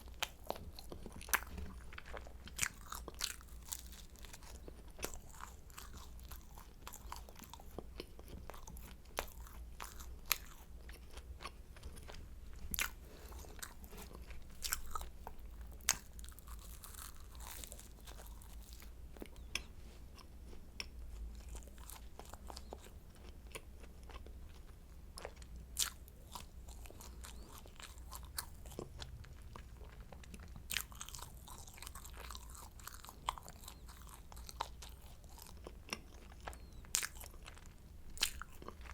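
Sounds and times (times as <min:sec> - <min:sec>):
chewing crisp pastry: 0:00.0 - 0:38.9.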